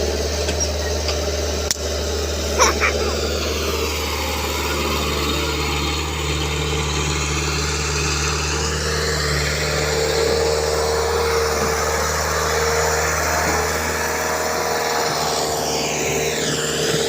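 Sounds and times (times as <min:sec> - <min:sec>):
excavator diesel engine running: 0:00.0 - 0:16.8.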